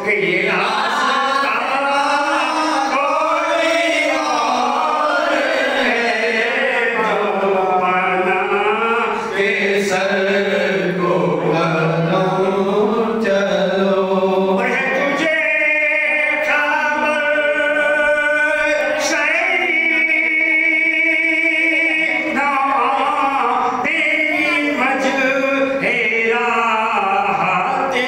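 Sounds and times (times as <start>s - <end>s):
man singing unaccompanied: 0.0s - 28.0s.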